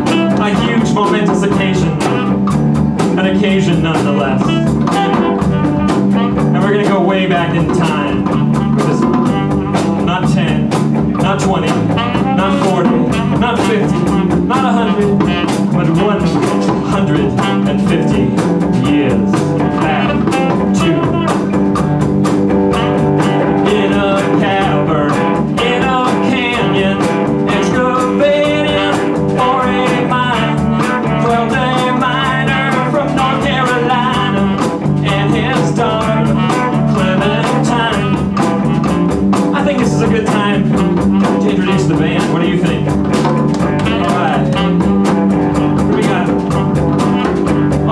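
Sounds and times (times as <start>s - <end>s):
live band playing blues rock: 0.0s - 47.9s
saxophone: 0.0s - 47.9s.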